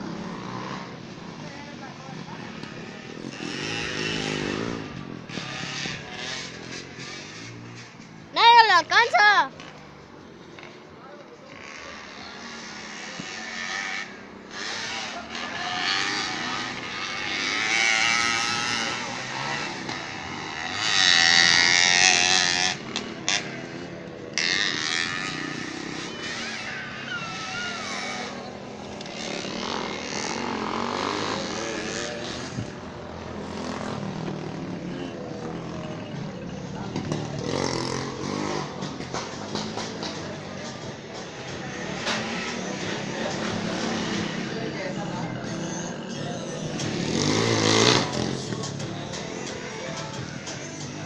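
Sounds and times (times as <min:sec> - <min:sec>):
motorcycle engines revving: 0:00.0 - 0:51.0.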